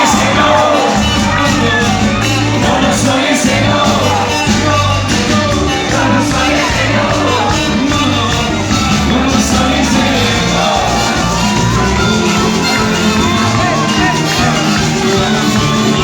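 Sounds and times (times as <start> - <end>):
crowd voices and shouts: 0.0 - 16.0
live band music: 0.0 - 16.0.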